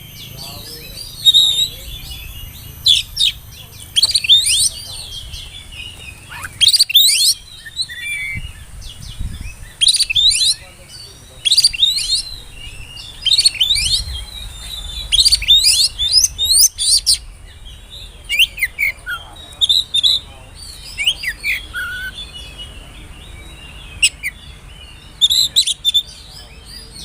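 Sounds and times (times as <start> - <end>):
bird singing whistled phrases: 0.0 - 17.3, 18.2 - 27.0.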